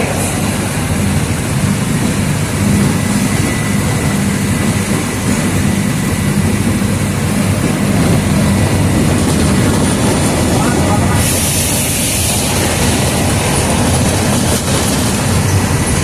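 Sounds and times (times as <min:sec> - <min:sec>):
bus diesel engine humming: 0:00.0 - 0:16.0.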